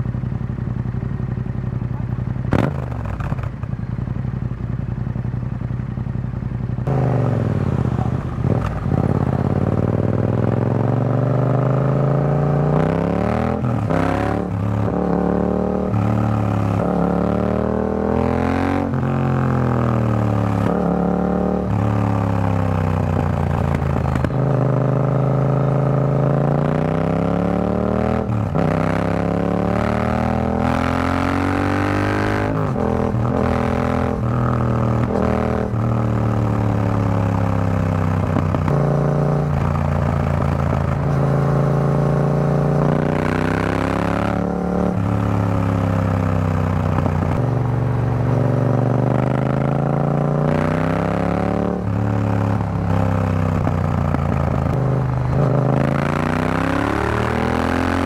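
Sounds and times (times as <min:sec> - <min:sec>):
motorcycle engine idling and accelerating: 0:00.0 - 0:58.0.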